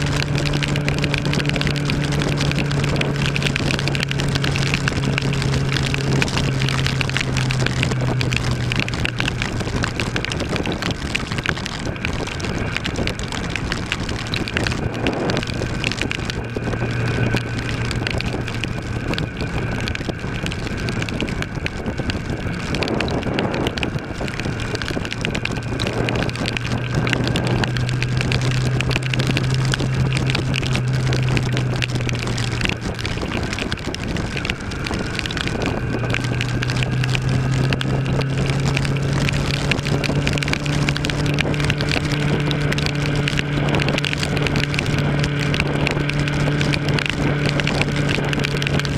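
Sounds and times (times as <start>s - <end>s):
motorcycle engine running: 0.0s - 48.9s
rain noise: 0.0s - 48.9s
wind rush: 0.0s - 48.9s.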